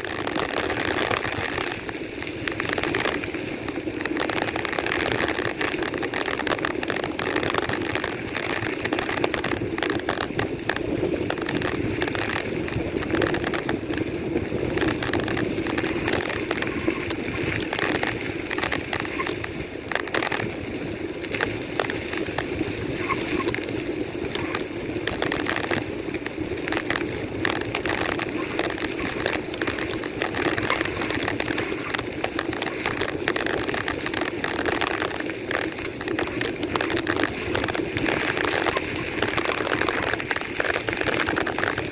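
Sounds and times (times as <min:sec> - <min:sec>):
crackling and rattling clicks: 0:00.0 - 0:41.9
wind noise on microphone: 0:00.0 - 0:41.9.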